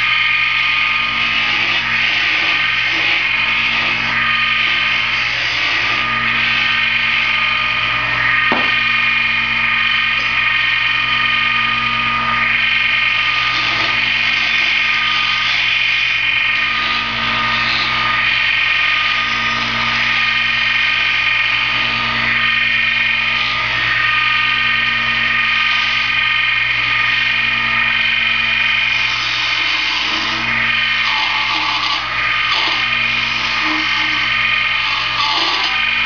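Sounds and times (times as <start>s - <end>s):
wood lathe whining: 0.0s - 36.0s.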